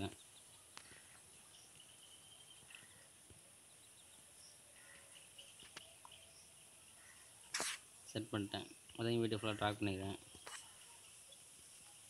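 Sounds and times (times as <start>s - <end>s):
faint high-pitched chirps: 0.0s - 12.0s
faint steady hiss: 0.0s - 12.0s.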